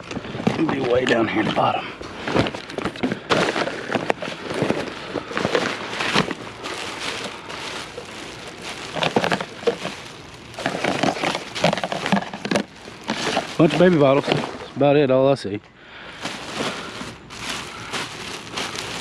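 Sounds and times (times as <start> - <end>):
hands rummaging through items: 0.0 - 14.8, 16.1 - 19.0.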